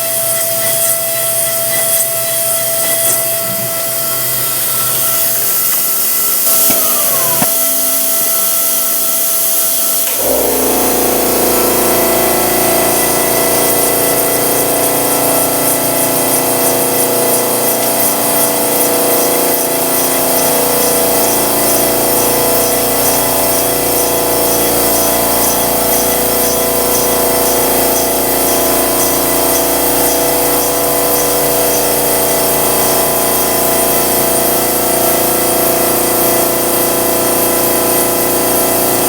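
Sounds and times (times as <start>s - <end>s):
loud grinding hiss: 0.0s - 39.0s
milling machine spindle whine: 0.0s - 39.0s.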